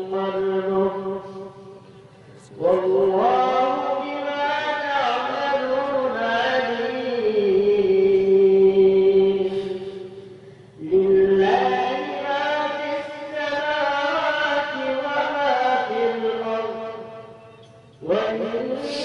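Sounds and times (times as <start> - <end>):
person reciting melodically: 0.0 - 19.0.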